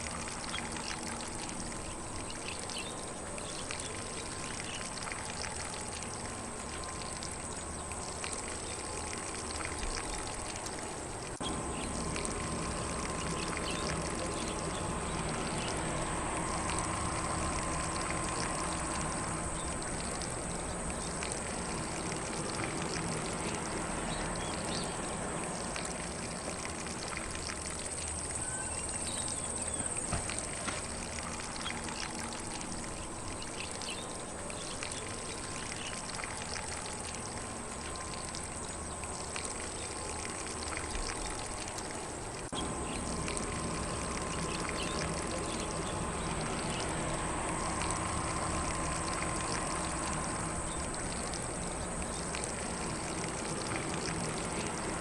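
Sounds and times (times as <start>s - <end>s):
sprinkler spraying water on grass: 0.0s - 55.0s
faint birdsong: 0.2s - 48.0s, 48.6s - 55.0s.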